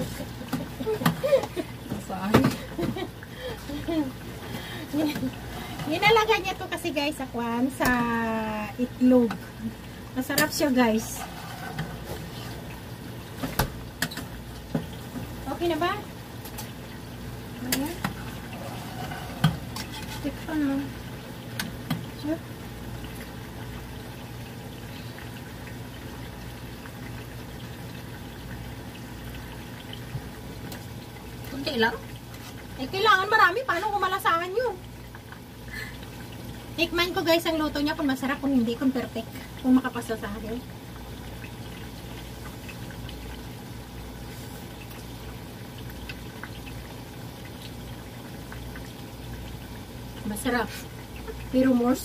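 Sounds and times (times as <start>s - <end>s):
kitchen background hiss: 0.0s - 52.0s.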